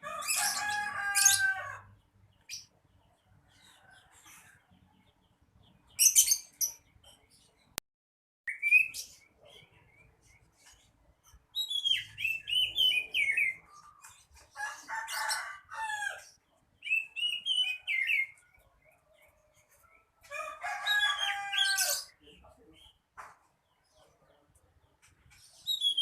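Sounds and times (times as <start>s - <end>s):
bird singing warbling phrases: 0.0s - 7.8s, 8.5s - 19.8s, 20.9s - 23.1s, 23.7s - 26.0s
harsh bird calls: 0.0s - 7.8s, 8.5s - 26.0s.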